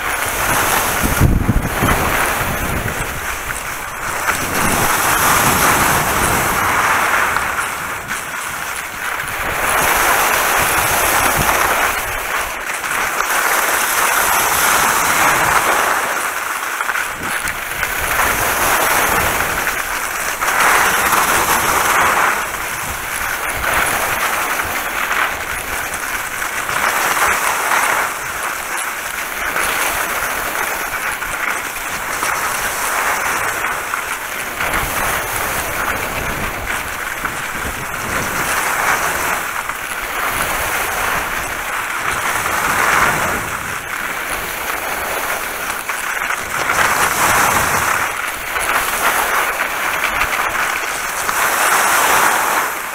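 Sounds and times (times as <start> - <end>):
skis scraping over wet snow: 0.0 - 52.9.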